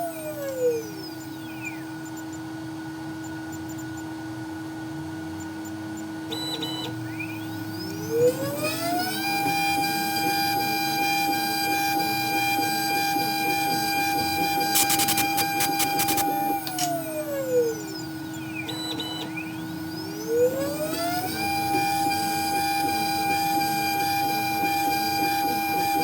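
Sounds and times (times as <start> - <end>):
cnc spindle motor whining: 0.0 - 26.0.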